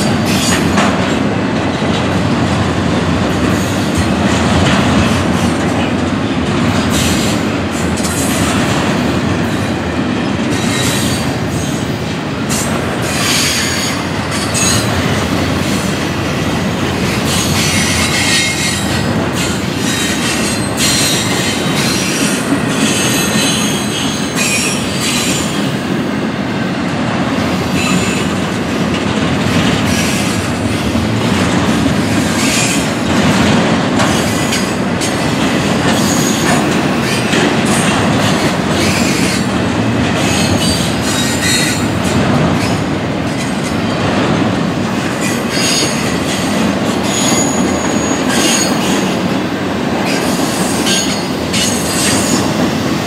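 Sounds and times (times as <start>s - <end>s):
freight train wheels clattering: 0.0s - 53.0s.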